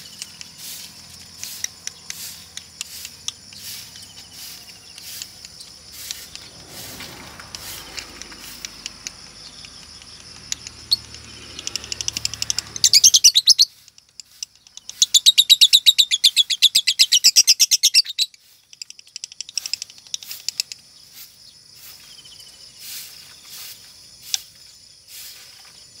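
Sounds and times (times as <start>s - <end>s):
bird chirping softly: 0.0s - 23.8s
bird rattling trills: 0.0s - 23.8s.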